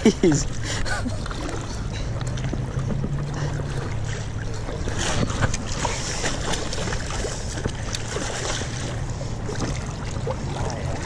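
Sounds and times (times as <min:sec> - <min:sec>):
river water sloshing and splashing: 0:00.0 - 0:11.0
small splashes: 0:00.0 - 0:11.0
wind rumble on microphone: 0:00.3 - 0:11.0.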